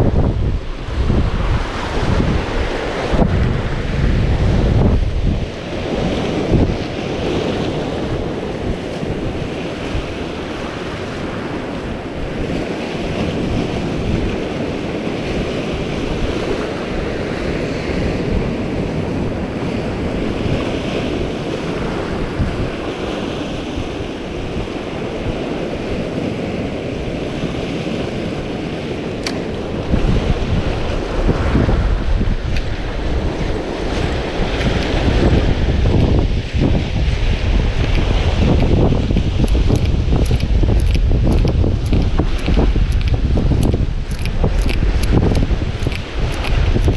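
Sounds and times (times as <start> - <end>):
surf breaking over rocks: 0.0 - 46.9
wind buffeting microphone: 0.0 - 46.9.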